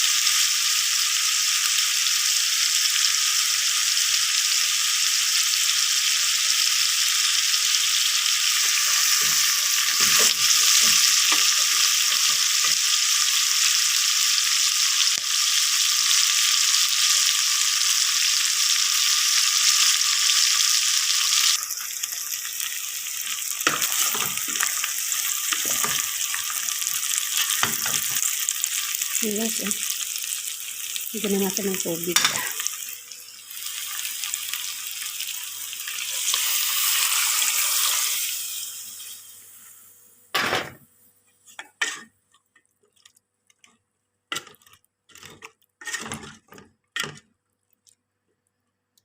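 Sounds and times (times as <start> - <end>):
chicken sizzling in hot oil: 0.0 - 43.4.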